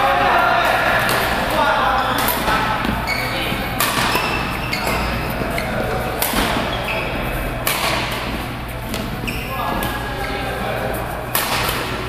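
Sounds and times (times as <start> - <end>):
rackets hitting shuttlecock: 0.6 - 10.3, 11.2 - 12.0.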